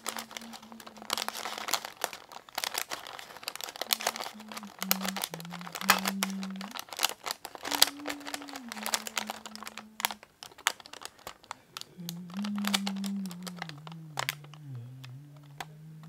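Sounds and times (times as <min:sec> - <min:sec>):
paper crinkling and crackling: 0:00.0 - 0:16.0.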